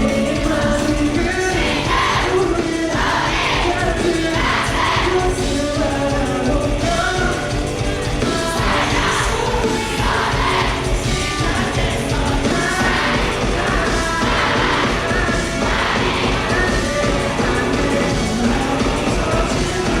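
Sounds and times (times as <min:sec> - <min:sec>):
drum beat: 0:00.0 - 0:20.0
live rock band playing: 0:00.0 - 0:20.0
person singing: 0:00.0 - 0:20.0.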